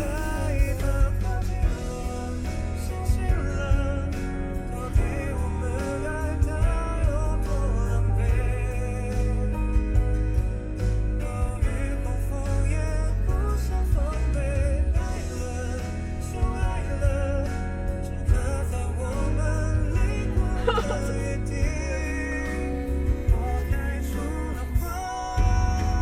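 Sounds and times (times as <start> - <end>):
song with heavy bass beat: 0.0 - 26.0.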